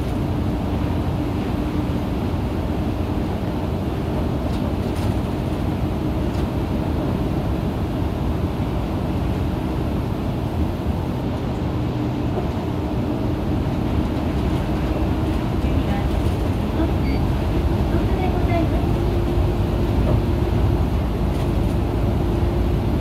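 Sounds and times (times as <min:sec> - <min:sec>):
bus diesel engine drone: 0:00.0 - 0:23.0.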